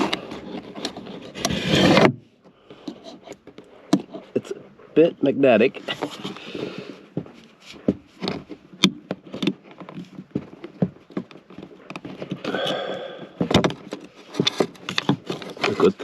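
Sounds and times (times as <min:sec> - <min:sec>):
tools clicking and scraping speaker: 0:00.0 - 0:02.1, 0:02.7 - 0:05.0, 0:05.8 - 0:16.0.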